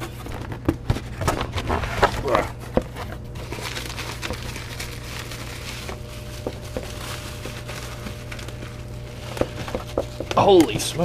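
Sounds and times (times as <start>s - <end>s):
steady low hum: 0.0s - 11.0s
bubble wrap rustling and crackling: 1.2s - 11.0s.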